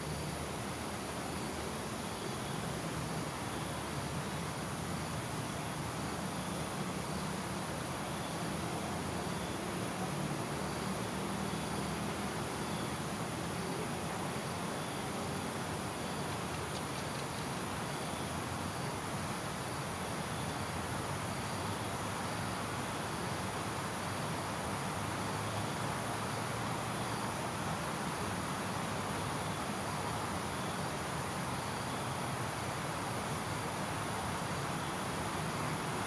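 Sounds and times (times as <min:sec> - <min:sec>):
cricket chirps: 0:00.0 - 0:36.0
distant traffic hiss: 0:00.0 - 0:36.0
insects droning: 0:00.0 - 0:36.0.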